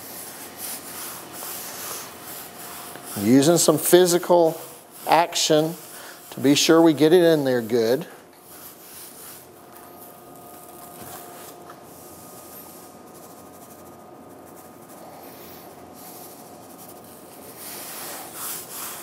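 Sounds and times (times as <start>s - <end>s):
rustling and rubbing on meat: 0.0s - 7.8s, 8.4s - 19.0s
faint steady hum: 0.0s - 19.0s.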